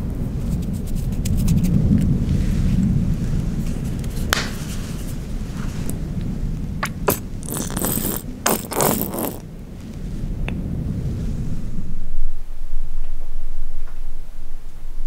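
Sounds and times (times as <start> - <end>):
wind buffeting a hut: 0.0 - 15.0.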